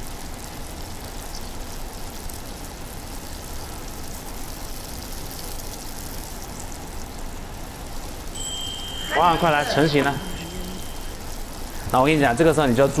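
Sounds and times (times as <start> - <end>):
dumplings sizzling in a pan: 0.0 - 13.0.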